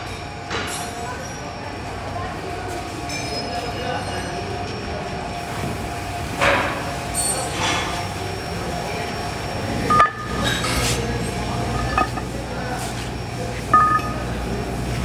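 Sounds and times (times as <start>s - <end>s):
foundry machinery noise: 0.0s - 15.0s.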